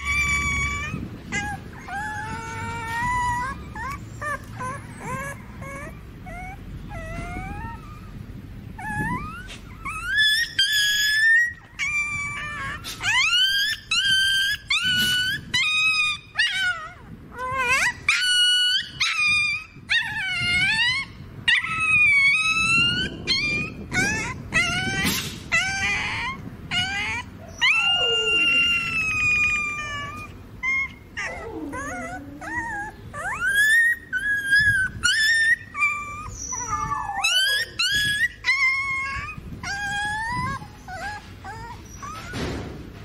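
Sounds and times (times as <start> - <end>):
puppy whimpering: 0.0 - 43.0
puppy yelping: 0.0 - 43.0.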